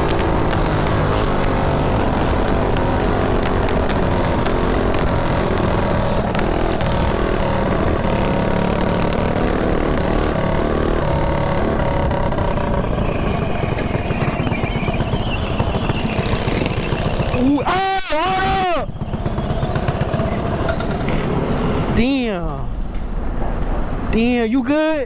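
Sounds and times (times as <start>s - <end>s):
mini bike engine running: 0.0s - 22.0s.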